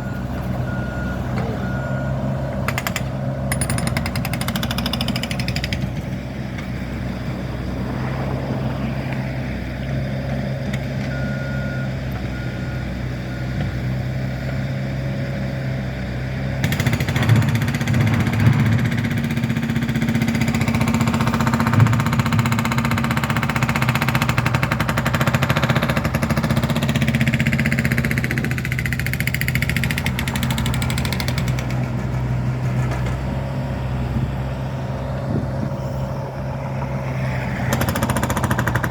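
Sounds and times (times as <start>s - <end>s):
diesel construction machinery drone: 0.0s - 38.9s.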